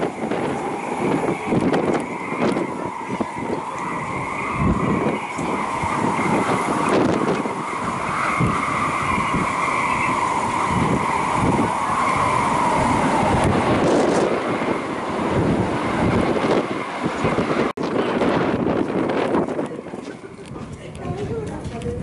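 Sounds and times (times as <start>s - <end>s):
steady high whine: 0.0s - 20.5s
strong wind buffeting microphone: 0.0s - 22.0s.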